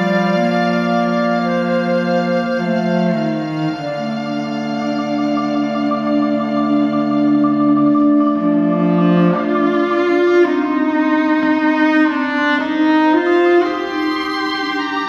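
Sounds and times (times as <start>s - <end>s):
chamber quartet long held notes: 0.0s - 15.0s.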